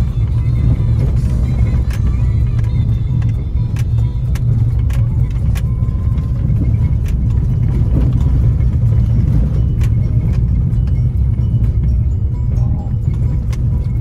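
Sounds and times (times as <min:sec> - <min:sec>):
vehicle rumble on rough road: 0:00.0 - 0:14.0.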